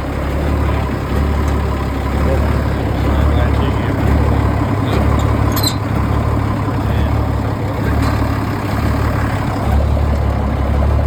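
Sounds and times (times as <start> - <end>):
truck diesel engine idling loudly: 0.0 - 11.0.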